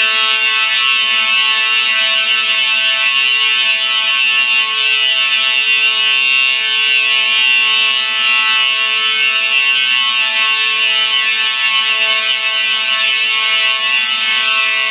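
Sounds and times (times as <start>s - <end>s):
fire alarm horns: 0.0s - 14.9s.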